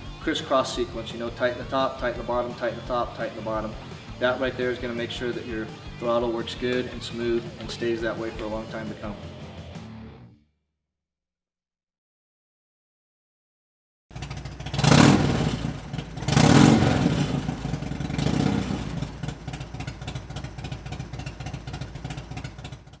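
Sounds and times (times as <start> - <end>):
motorcycle engine revving and idling: 0.0 - 9.9, 14.1 - 23.0.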